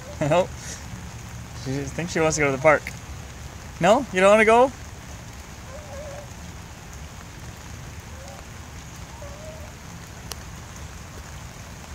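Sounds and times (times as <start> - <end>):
light rain on pavement: 0.0 - 11.9.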